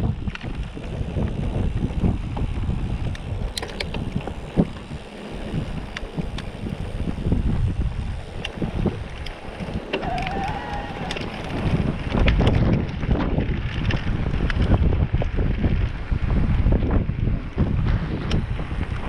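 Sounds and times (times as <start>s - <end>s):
bike tyres rattling on dirt: 0.0s - 19.0s
wind buffeting microphone: 0.0s - 19.0s.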